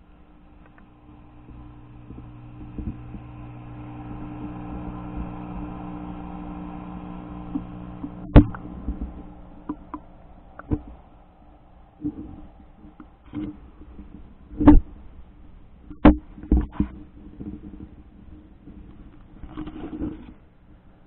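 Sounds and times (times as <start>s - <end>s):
underwater low hum: 0.0s - 21.0s.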